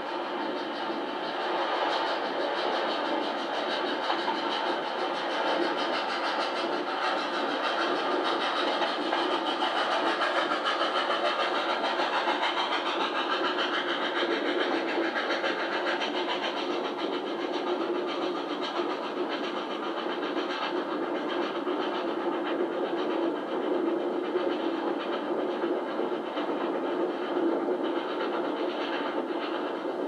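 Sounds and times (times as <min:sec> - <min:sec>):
steam locomotives working hard: 0:00.0 - 0:30.0
train running noise: 0:00.0 - 0:30.0.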